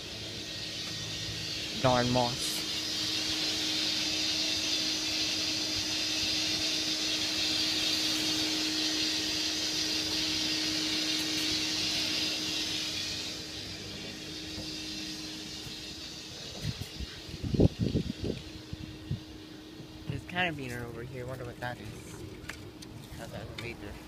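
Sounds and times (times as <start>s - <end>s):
electric motor humming: 0.0s - 24.0s.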